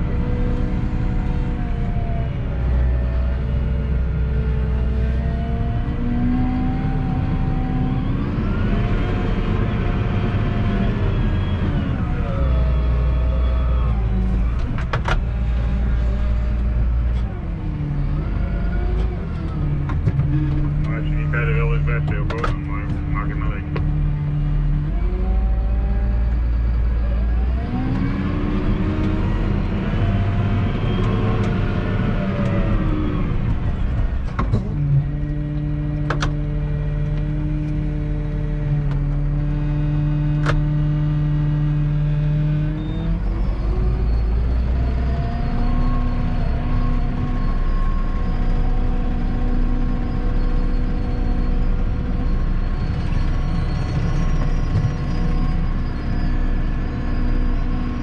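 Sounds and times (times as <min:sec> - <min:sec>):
tractor diesel engine from cab: 0:00.0 - 0:58.0.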